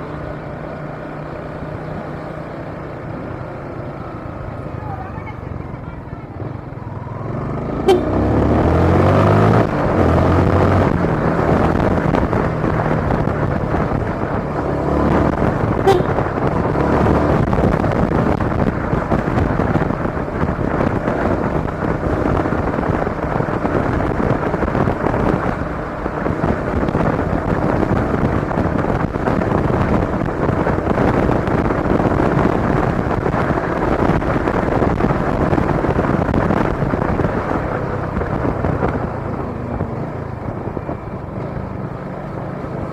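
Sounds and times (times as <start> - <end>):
motorcycle engine revving: 0.0 - 42.9
road and wind noise: 0.0 - 42.9.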